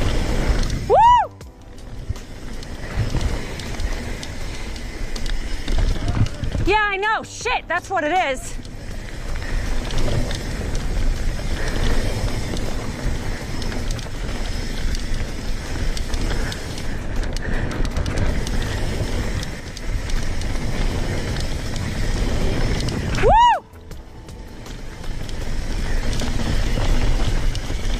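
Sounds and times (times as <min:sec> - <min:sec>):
wind rumbling on microphone: 0:00.0 - 0:07.0, 0:08.6 - 0:27.9
bike rattling over bumps: 0:00.0 - 0:27.9
bike tyres rolling over dirt: 0:00.0 - 0:27.9.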